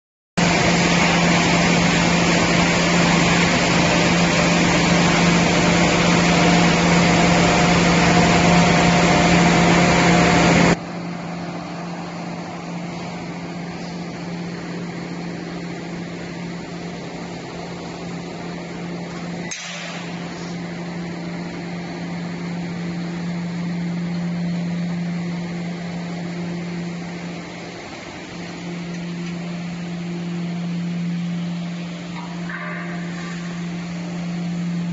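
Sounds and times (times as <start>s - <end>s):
constant low hum: 0.4s - 34.9s
production line machinery running: 0.4s - 34.9s.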